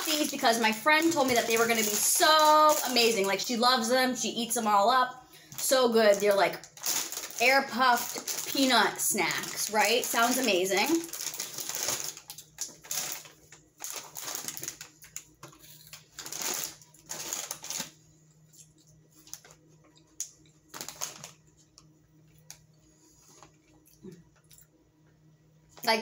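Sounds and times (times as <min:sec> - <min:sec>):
plastic snack bag crinkling: 0:00.0 - 0:03.9, 0:05.4 - 0:22.6.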